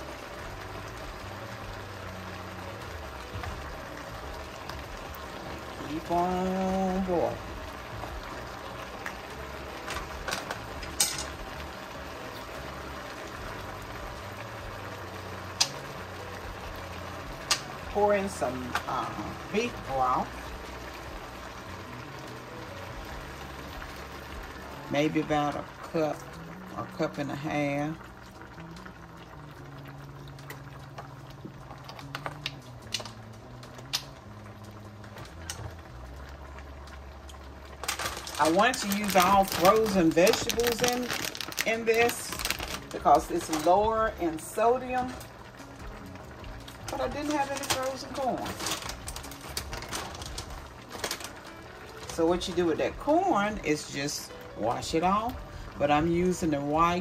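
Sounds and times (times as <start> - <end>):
soup bubbling in a pot: 0.0 - 57.0.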